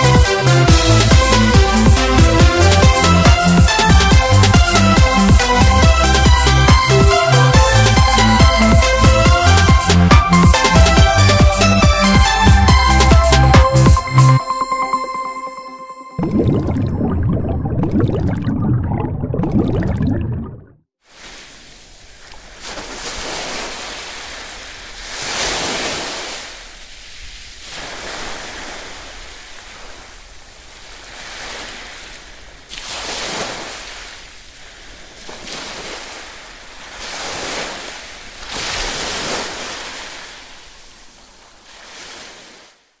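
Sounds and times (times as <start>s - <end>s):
ocean waves washing in: 0.0s - 43.0s.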